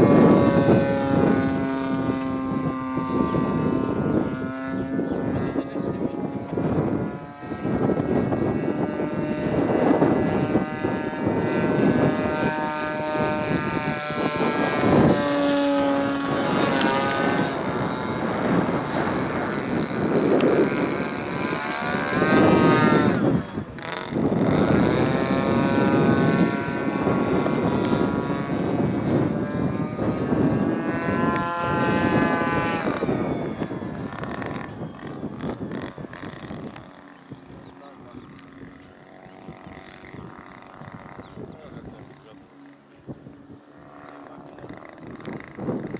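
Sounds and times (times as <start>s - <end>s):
model plane engine and propeller: 0.0s - 45.9s.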